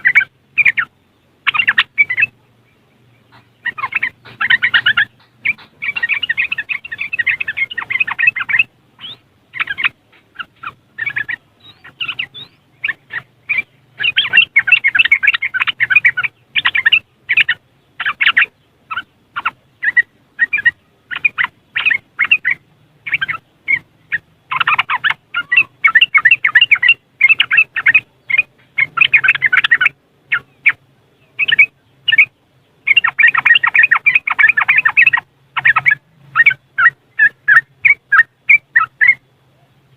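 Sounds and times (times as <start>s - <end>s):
bird chattering call: 0.0s - 39.7s.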